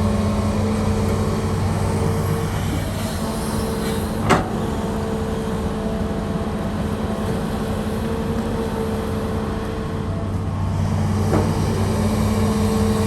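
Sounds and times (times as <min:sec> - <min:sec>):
diesel engine running under load: 0:00.0 - 0:13.0.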